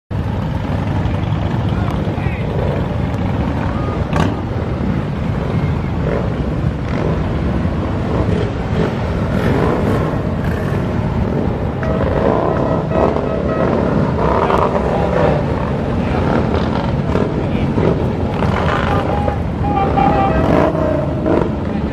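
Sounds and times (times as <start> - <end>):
motorcycles riding past: 0.1 - 21.9.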